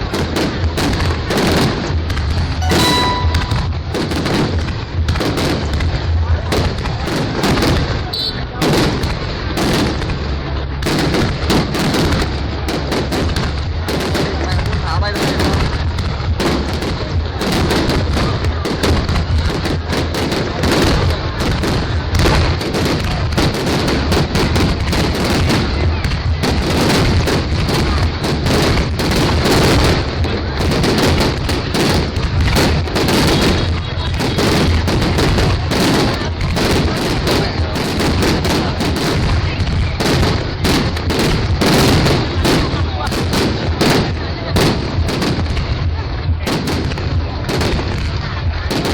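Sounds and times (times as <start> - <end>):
fireworks rapid bangs: 0.0 - 48.9.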